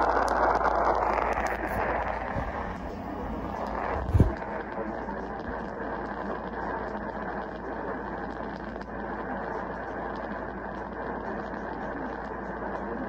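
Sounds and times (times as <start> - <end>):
faint crackles: 0.0 - 13.0
radio static hiss: 0.0 - 13.0.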